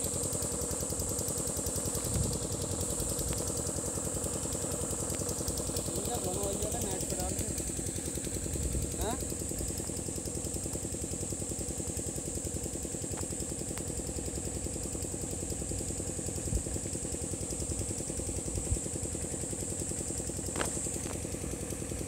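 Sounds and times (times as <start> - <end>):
constant high hiss: 0.0 - 22.0
engine running at fast chug: 0.0 - 22.0.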